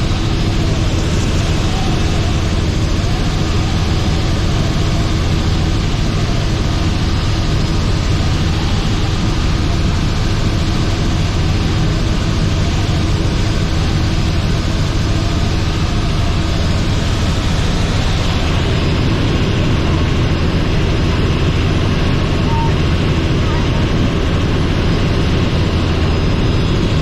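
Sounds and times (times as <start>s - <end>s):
helicopter engine and rotors: 0.0s - 27.0s.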